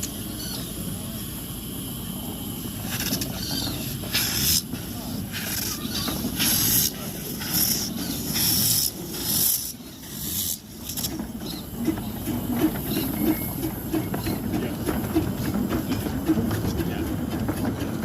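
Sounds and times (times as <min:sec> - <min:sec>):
steam locomotive hissing bursts: 0:00.0 - 0:18.0.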